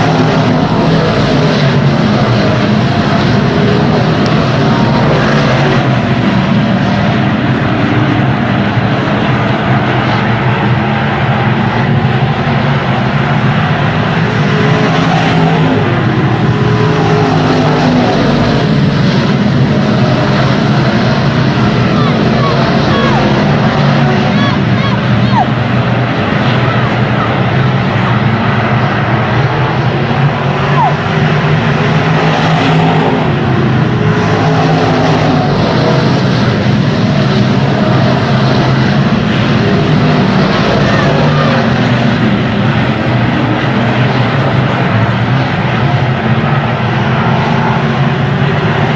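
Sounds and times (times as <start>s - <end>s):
race car engine running loud: 0.0s - 48.9s
wind and track noise: 0.0s - 48.9s.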